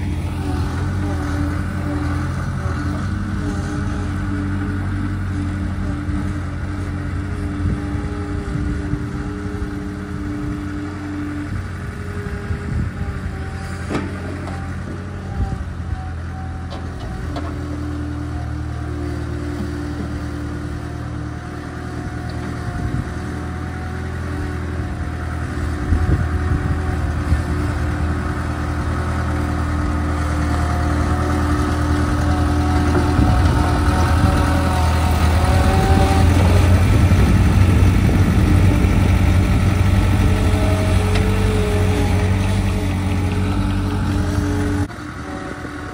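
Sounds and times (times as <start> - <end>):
skid steer engine running: 0.0 - 45.9.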